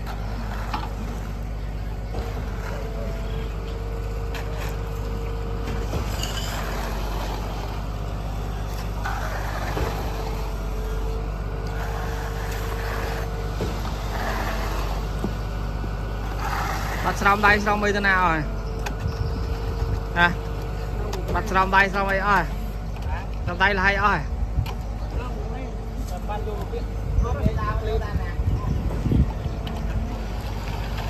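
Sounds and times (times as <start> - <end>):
heavy diesel engine droning: 0.0 - 27.2.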